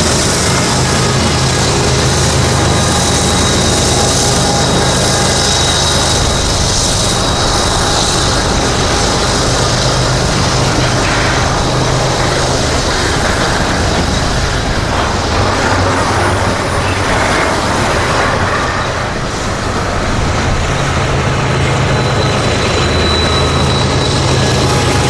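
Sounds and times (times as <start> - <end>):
diesel locomotive drone: 0.0 - 25.0
steel wheels rushing on rail: 0.0 - 25.0.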